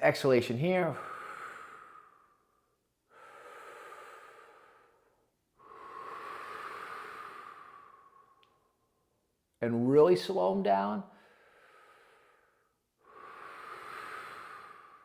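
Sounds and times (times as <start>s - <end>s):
man breathing deeply: 0.8s - 9.1s, 11.1s - 15.0s.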